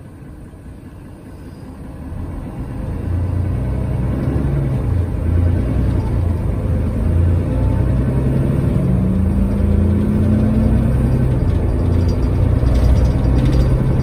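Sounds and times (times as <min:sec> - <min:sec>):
bus diesel engine accelerating: 0:00.0 - 0:14.0.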